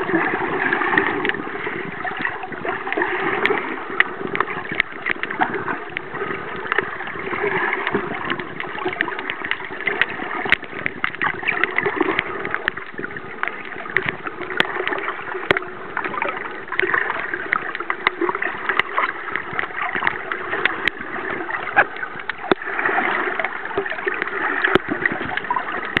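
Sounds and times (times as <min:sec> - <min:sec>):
muffled underwater rushing: 0:00.0 - 0:26.0
sharp underwater clicks: 0:00.0 - 0:26.0.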